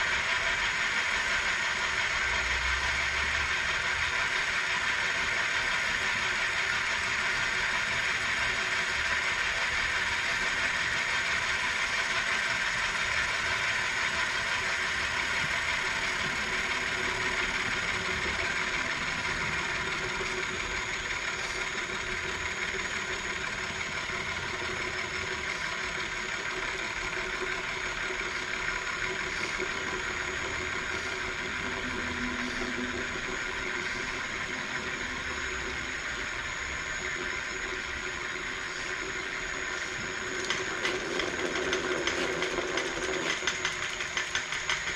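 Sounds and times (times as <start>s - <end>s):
milling machine cutting metal: 0.0s - 44.9s.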